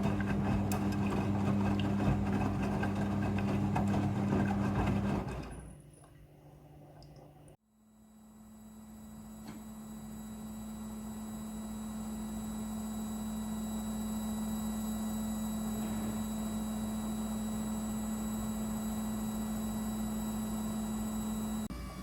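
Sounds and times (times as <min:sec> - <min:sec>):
washing machine hum: 0:00.0 - 0:07.6, 0:08.2 - 0:22.0.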